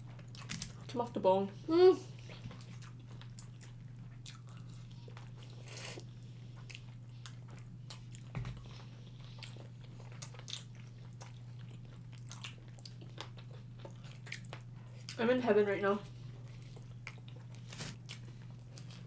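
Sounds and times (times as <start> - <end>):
low steady hum: 0.0 - 19.0
people chewing chicken wings: 2.1 - 15.5, 16.1 - 19.0.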